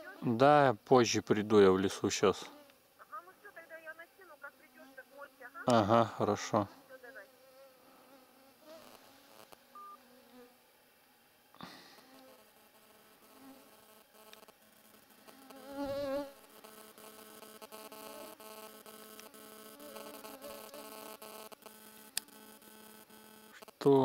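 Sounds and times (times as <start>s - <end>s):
flying insect buzzing: 0.0s - 0.5s, 1.6s - 24.0s.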